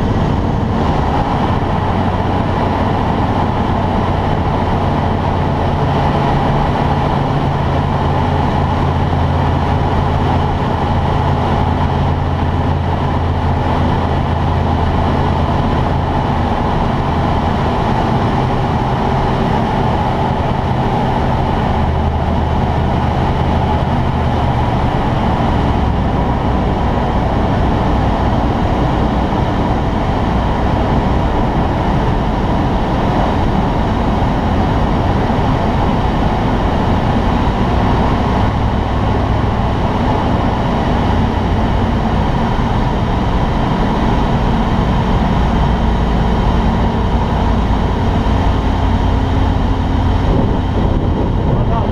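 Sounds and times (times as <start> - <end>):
low aircraft engine drone: 0.0 - 51.9
rush of air: 0.0 - 51.9.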